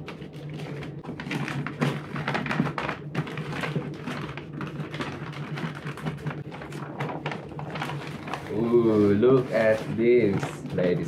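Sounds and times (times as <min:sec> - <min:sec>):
packaging rustling and tearing: 0:00.0 - 0:11.0.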